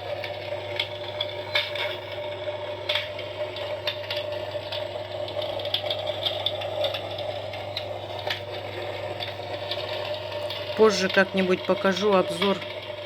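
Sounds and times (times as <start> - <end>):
heater fan hum: 0.0 - 13.0
simulated crackle of burning logs: 0.0 - 13.0.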